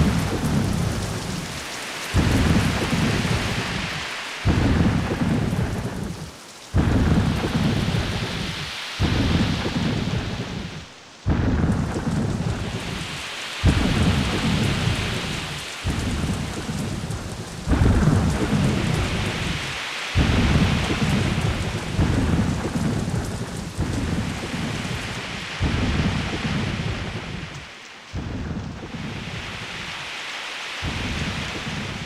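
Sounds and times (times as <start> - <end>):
heavy rain hissing: 0.0 - 32.0
loud low rumbles: 2.2 - 29.9, 30.8 - 32.0.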